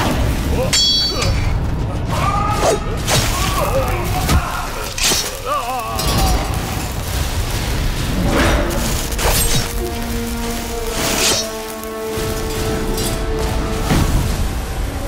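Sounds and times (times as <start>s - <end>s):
crashes and sharp impacts: 0.0s - 15.0s
film music: 0.0s - 15.0s.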